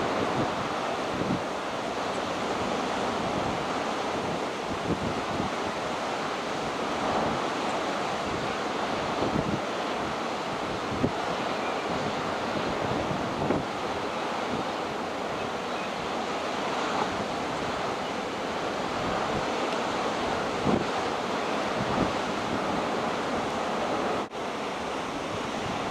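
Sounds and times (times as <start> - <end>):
wind rumbling on microphone: 0.0 - 25.9.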